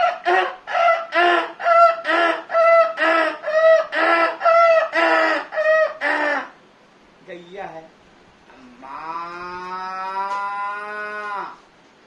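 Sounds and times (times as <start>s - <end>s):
man imitating bird calls: 0.0s - 6.6s, 8.5s - 11.6s.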